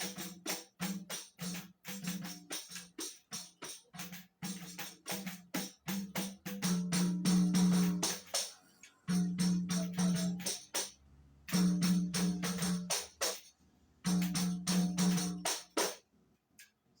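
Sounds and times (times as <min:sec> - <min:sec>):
small frame drum struck with stick: 0:00.0 - 0:16.0.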